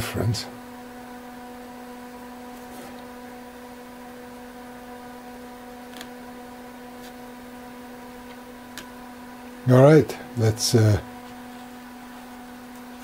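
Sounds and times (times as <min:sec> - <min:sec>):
cooling fan humming: 0:00.0 - 0:13.0.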